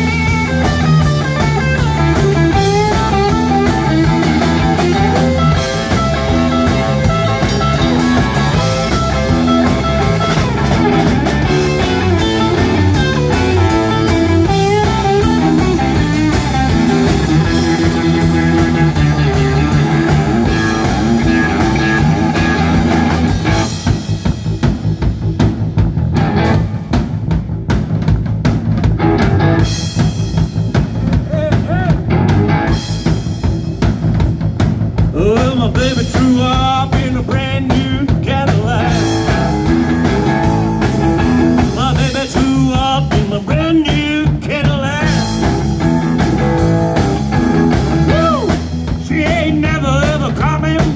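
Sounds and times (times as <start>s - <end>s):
drum kit: 0.0s - 50.9s
electric bass: 0.0s - 50.9s
electric guitar: 0.0s - 50.9s.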